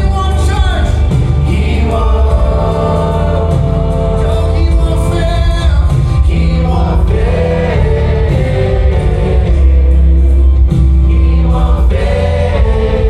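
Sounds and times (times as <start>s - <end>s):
band with steady bass: 0.0s - 13.0s
group singing worship song: 0.8s - 5.4s, 6.1s - 13.0s.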